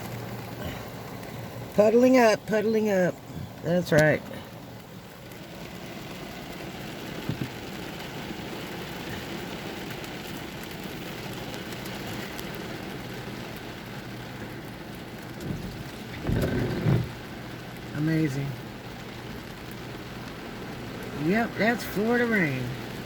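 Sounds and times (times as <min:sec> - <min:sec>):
heavy rain splashing in puddles: 0:00.0 - 0:23.0.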